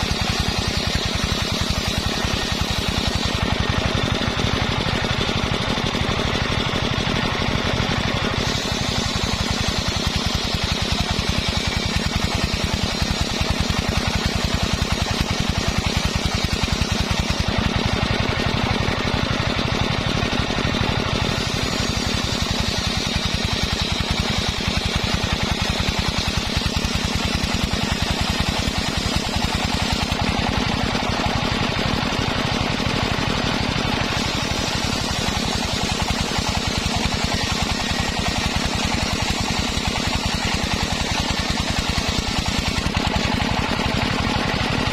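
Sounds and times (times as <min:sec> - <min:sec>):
sawmill engine pulsing: 0:00.0 - 0:44.9.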